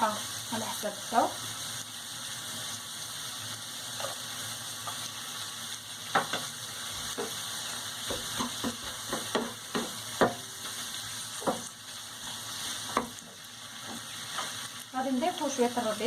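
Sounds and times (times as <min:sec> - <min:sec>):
shrimp sizzling in hot oil: 0:00.0 - 0:16.0.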